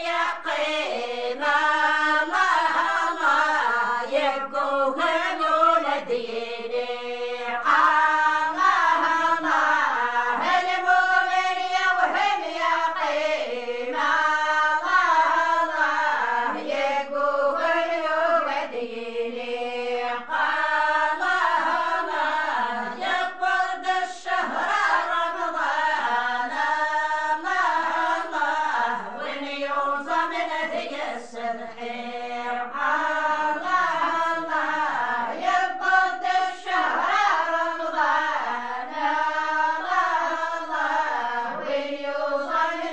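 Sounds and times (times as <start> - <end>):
women singing in unison: 0.0 - 42.9.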